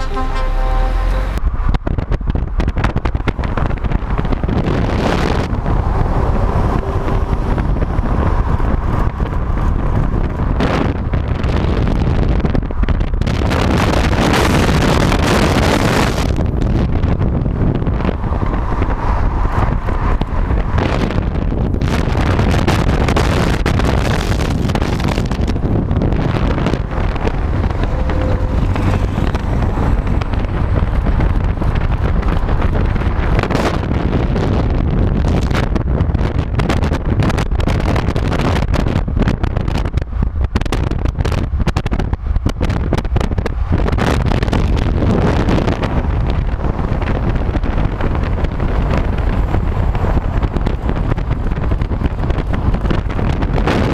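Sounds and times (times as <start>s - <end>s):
car and tyre road noise: 0.0s - 53.9s
wind buffeting microphone: 0.0s - 53.9s.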